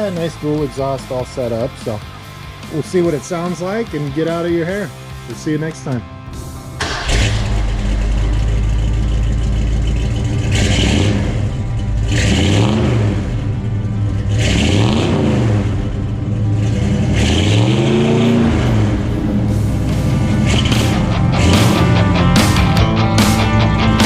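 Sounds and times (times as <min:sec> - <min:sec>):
engine idling and revving: 0:00.0 - 0:24.0.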